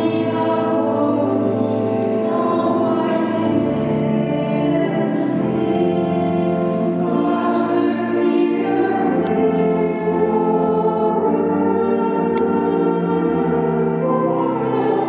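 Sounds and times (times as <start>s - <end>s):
choir singing a slow hymn: 0.0s - 15.0s.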